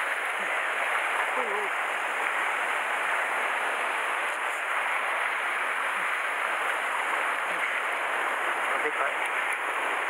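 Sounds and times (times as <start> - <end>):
surf washing over rocks: 0.0 - 10.0.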